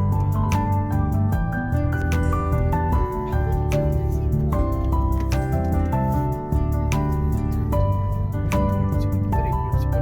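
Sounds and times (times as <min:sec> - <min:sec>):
melodic music with soft beat: 0:00.0 - 0:10.0.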